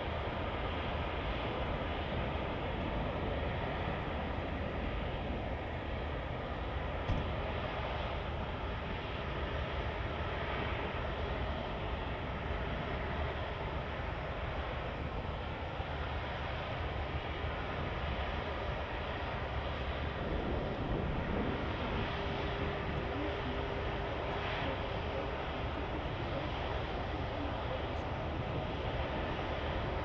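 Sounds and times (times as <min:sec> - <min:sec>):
jet engines at low thrust: 0:00.0 - 0:30.0.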